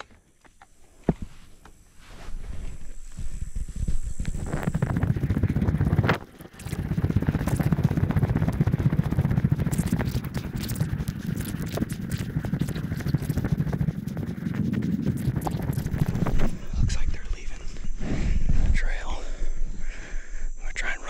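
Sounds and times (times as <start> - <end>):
low microphone rumble: 2.1 - 20.6.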